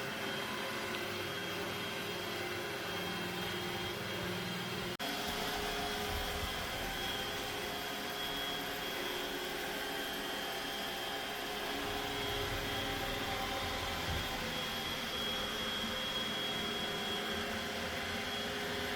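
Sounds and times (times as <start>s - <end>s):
robot vacuum whirring: 0.1s - 18.9s.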